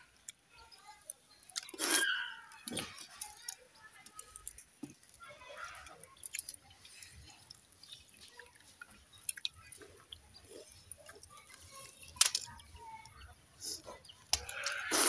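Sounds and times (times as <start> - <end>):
chewing: 1.0 - 15.0
fingers squishing wet rice: 1.5 - 15.0.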